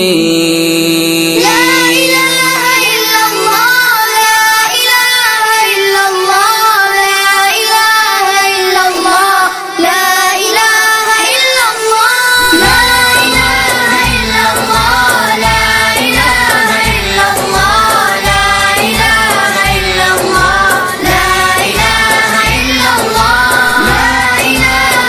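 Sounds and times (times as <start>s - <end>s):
music with child-like singing: 1.4s - 25.0s.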